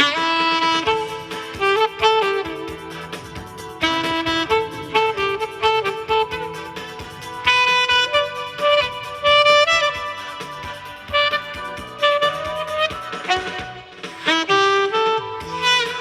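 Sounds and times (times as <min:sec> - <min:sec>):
backing track with steady beat: 0:00.0 - 0:16.0
saxophone slow melody: 0:00.0 - 0:16.0.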